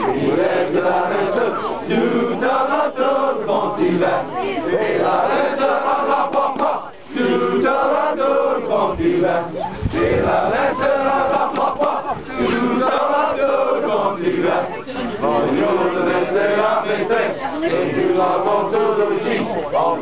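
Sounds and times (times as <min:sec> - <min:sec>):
crowd chanting and shouting: 0:00.0 - 0:20.0.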